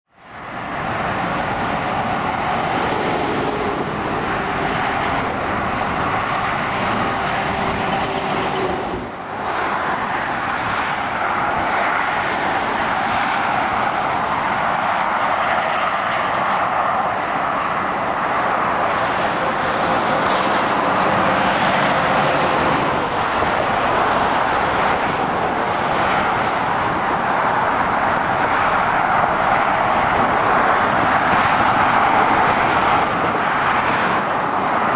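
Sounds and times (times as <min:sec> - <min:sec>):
engine drone: 0:00.3 - 0:34.9.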